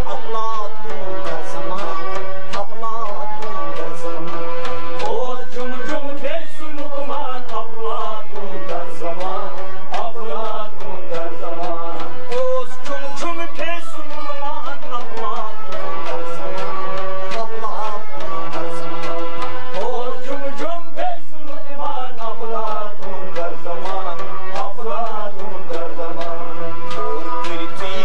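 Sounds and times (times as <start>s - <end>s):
harmonium chords: 0.0s - 28.0s
man singing: 0.0s - 28.0s
stringed instruments: 0.0s - 28.0s.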